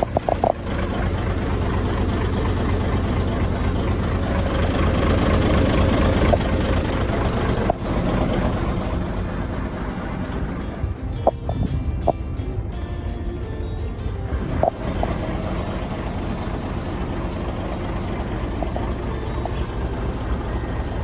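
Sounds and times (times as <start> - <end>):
truck diesel engine idling: 0.0 - 21.0.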